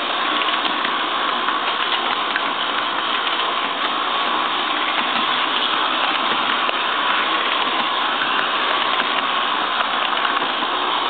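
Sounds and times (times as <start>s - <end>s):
model train motor whirring: 0.0s - 11.0s
wheels clicking on track: 0.0s - 11.0s.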